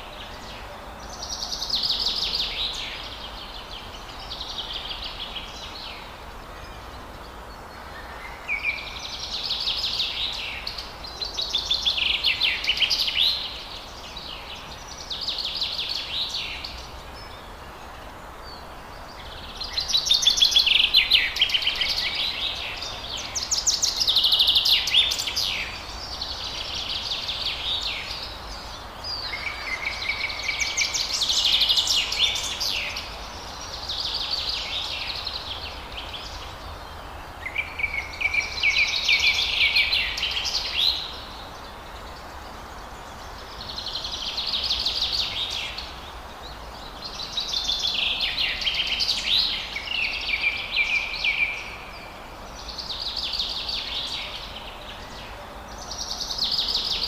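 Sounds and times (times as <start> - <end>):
birds singing: 0.0 - 57.0
steady background hiss: 0.0 - 57.0.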